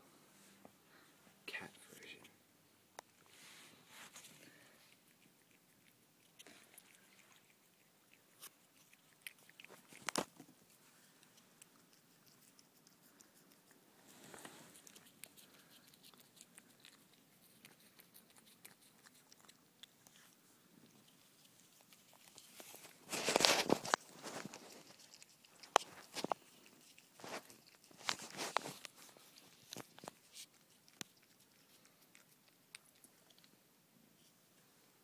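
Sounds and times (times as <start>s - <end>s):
cat licking and chewing: 1.5s - 35.0s.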